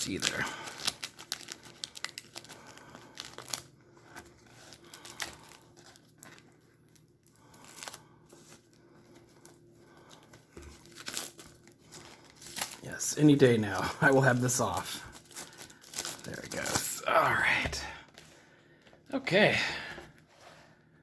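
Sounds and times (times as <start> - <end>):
plastic shrink wrap crinkling: 0.0 - 20.3.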